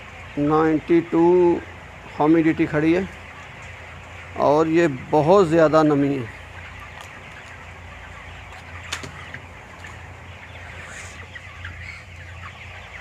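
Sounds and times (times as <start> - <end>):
chickens clucking and cheeping: 0.0 - 13.0.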